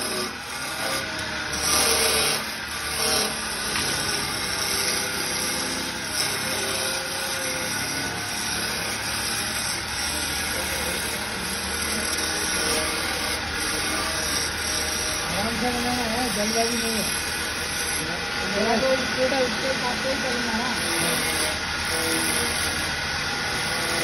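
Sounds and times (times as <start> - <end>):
tool scraping spinning wood: 0.0 - 24.0
wood lathe motor hum: 0.0 - 24.0.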